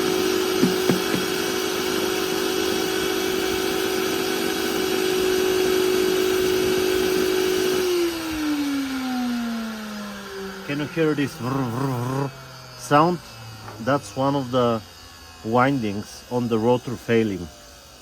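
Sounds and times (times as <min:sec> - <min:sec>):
vacuum cleaner motor whining: 0:00.0 - 0:18.0.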